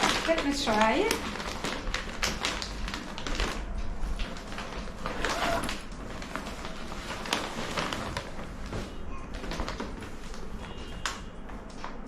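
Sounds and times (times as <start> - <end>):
fabric and wrapping rustling: 0.0 - 12.0.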